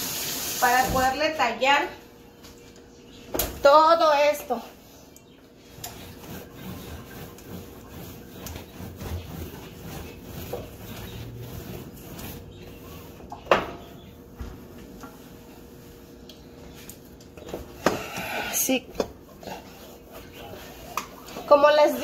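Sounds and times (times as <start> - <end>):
wet cloth scrubbing stovetop: 3.6 - 22.0.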